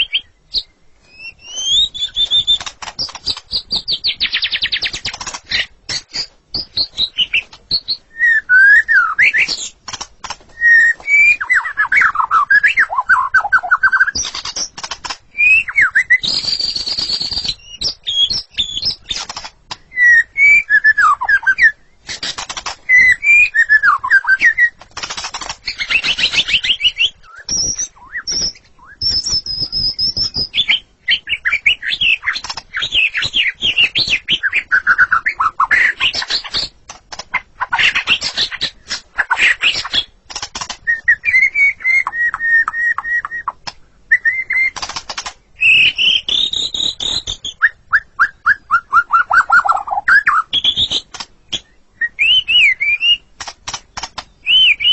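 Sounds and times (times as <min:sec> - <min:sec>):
bird whistling song: 0:00.0 - 0:36.7, 0:37.3 - 0:53.3, 0:54.0 - 0:54.9
bird harsh chattering: 0:00.0 - 0:43.6, 0:48.5 - 0:54.9.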